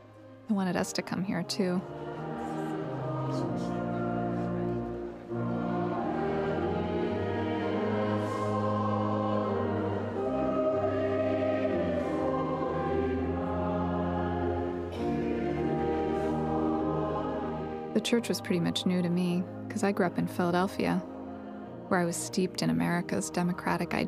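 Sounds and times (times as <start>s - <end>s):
voices singing a slow hymn: 0.0s - 24.0s.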